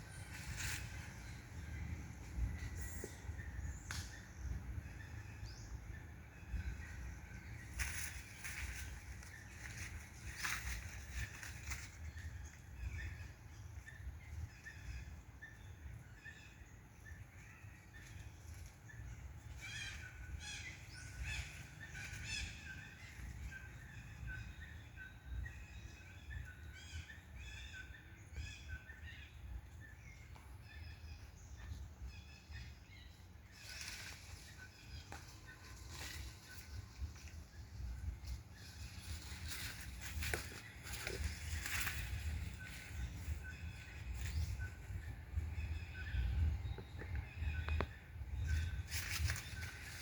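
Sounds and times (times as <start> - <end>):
birds chirping and calling: 0.0 - 50.0
low outdoor rumble: 0.0 - 50.0.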